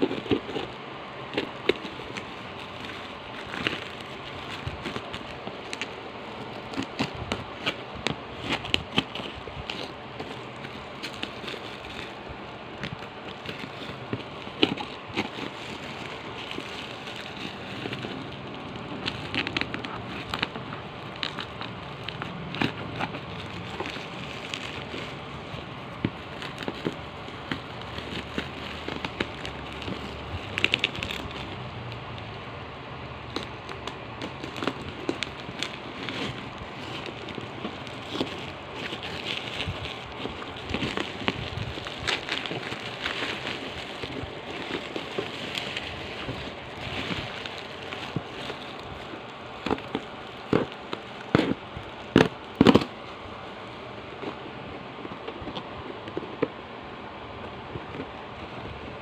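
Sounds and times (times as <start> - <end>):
plastic wrapping crinkling: 0.0 - 59.0.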